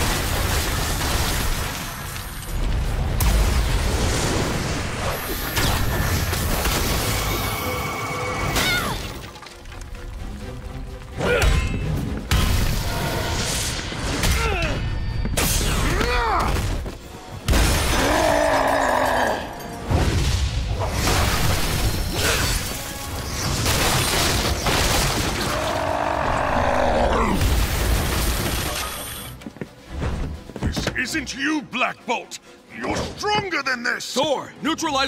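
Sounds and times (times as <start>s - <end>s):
dramatic action music: 0.0s - 35.0s.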